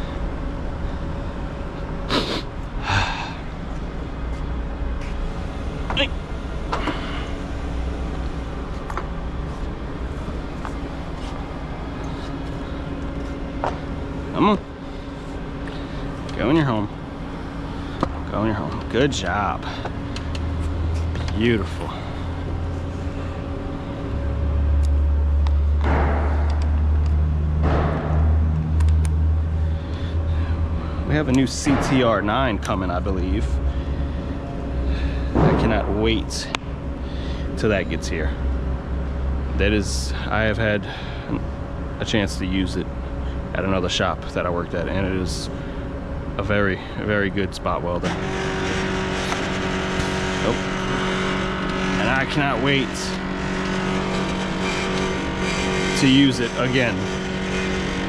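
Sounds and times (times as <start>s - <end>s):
spot welder humming: 0.0s - 58.0s.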